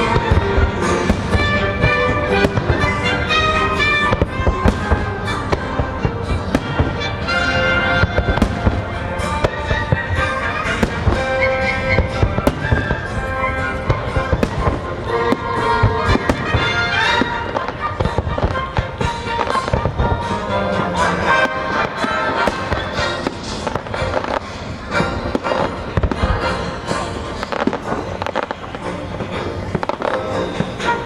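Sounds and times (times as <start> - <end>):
fireworks bangs: 0.0 - 31.0
music with sustained notes: 0.0 - 31.0.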